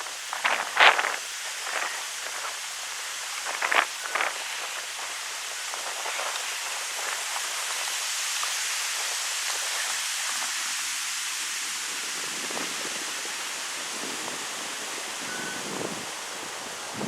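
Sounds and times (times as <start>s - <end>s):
leaves rustling: 0.0s - 17.0s
wind rushing through trees: 0.0s - 17.0s.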